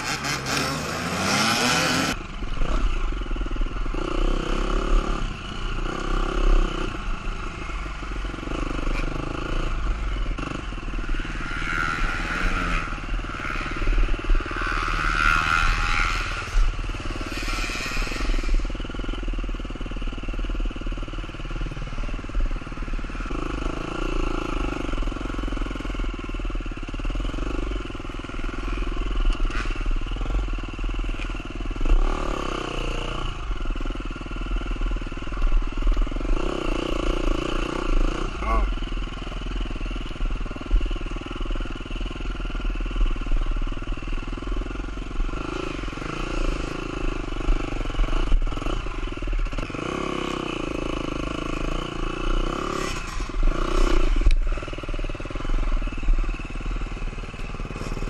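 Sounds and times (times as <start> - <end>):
dirt bike engine on a trail: 0.0 - 58.0
dirt bikes revving: 0.0 - 58.0.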